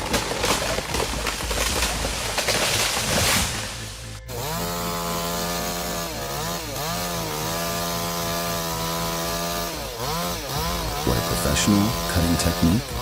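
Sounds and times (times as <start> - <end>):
chainsaw engine at high revs: 0.0 - 13.0.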